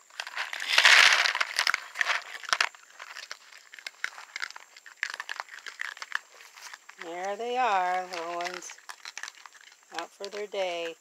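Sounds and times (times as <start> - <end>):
animals crunching kibble: 0.0 - 11.0
rustle: 0.0 - 11.0.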